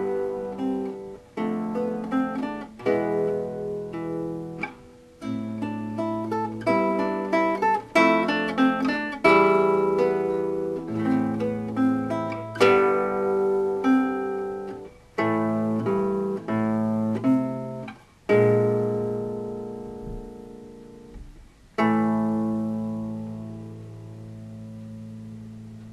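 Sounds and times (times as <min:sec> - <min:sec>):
classical guitar playing: 0:00.0 - 0:25.9.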